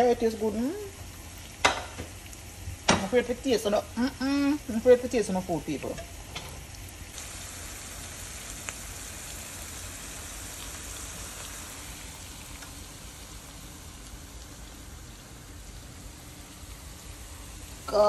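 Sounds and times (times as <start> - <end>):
hot oil sizzling: 0.0 - 18.0.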